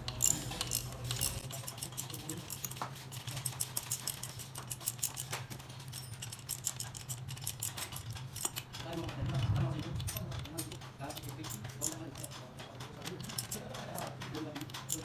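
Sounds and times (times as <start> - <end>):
hand ratchet clicking: 0.0 - 15.0
steady low hum: 0.0 - 15.0.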